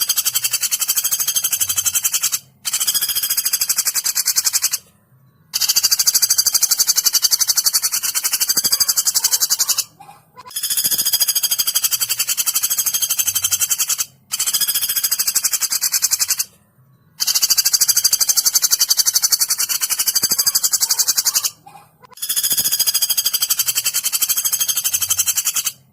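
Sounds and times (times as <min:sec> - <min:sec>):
woodpecker rattling trill: 0:00.0 - 0:25.9.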